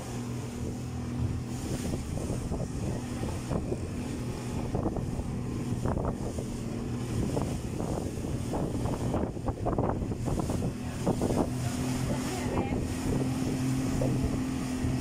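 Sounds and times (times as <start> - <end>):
motorboat engine running: 0.0 - 15.0
rushing water: 0.0 - 15.0
wind: 0.0 - 15.0.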